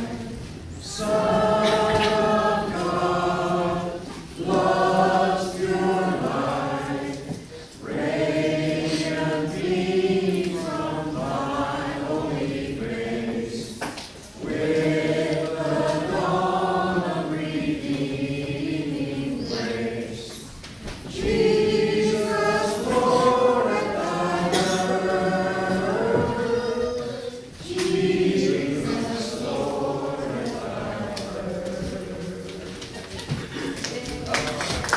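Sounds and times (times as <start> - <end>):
congregation singing a cappella: 0.0 - 34.9.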